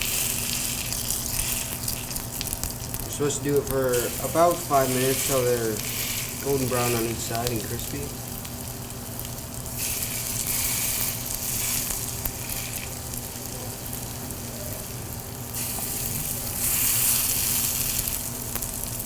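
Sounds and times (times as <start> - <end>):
pancakes sizzling in oil: 0.0 - 19.0.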